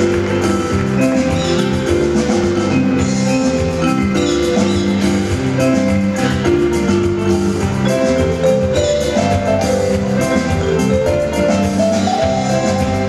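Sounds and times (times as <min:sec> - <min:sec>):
electronic keyboard music: 0:00.0 - 0:13.0.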